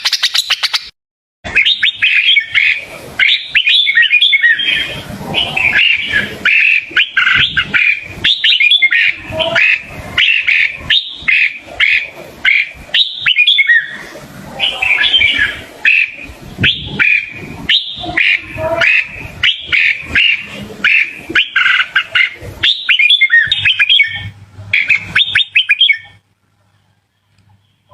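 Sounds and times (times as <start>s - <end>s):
bird chirping: 0.0s - 0.9s, 1.5s - 26.2s.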